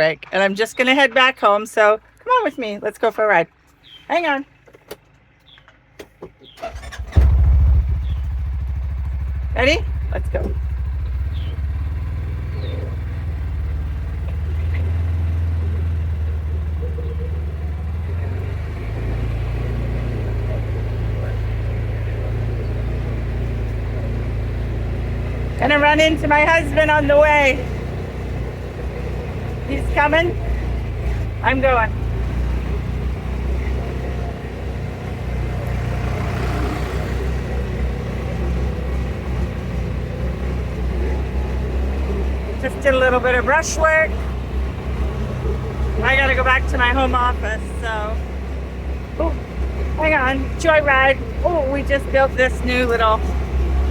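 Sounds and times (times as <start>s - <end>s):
farm vehicle engine running: 0.0s - 53.9s.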